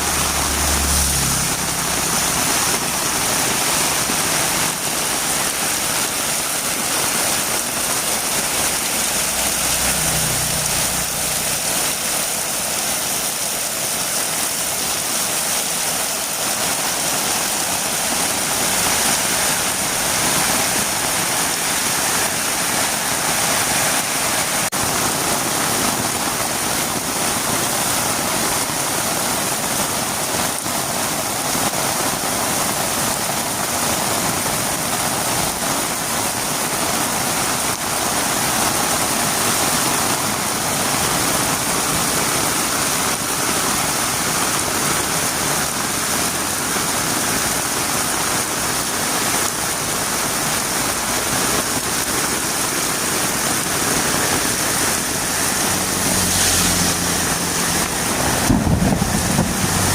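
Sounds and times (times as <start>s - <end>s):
heavy rain on a road: 0.0s - 59.9s.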